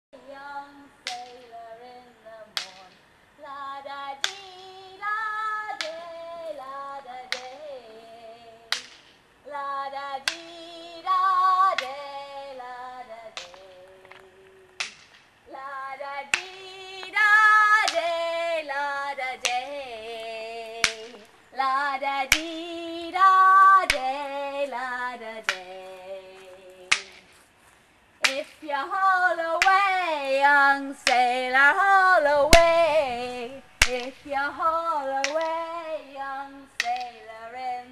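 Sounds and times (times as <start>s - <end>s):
woman singing unaccompanied: 0.1s - 27.4s, 28.2s - 37.9s.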